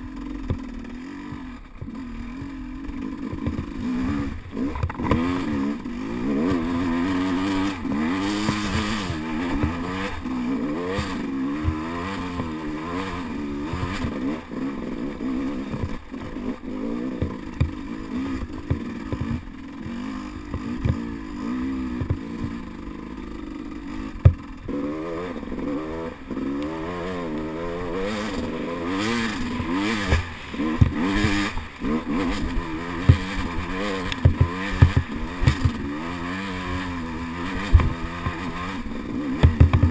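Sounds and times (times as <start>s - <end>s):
motorcycle engine revving: 0.0s - 39.9s
motorcycle clattering over rocks: 0.2s - 14.4s, 17.2s - 21.1s, 21.9s - 22.6s, 24.0s - 24.8s, 25.8s - 39.9s.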